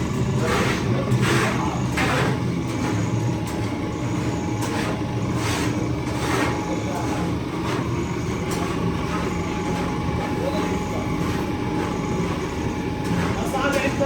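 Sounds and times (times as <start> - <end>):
low mechanical hum: 0.0 - 14.0
thin steady whine: 0.0 - 14.0.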